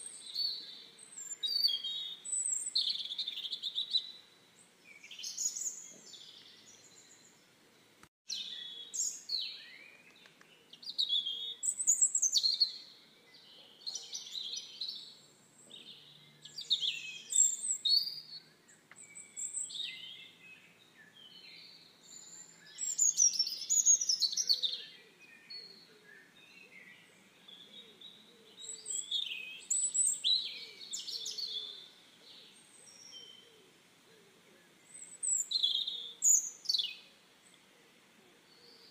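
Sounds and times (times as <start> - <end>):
songbirds chirping and warbling: 0.0 - 38.9.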